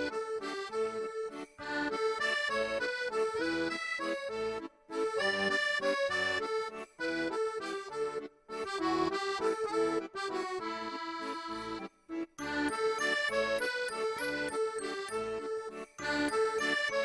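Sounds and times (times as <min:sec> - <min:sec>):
melodic instrumental music: 0:00.0 - 0:17.0.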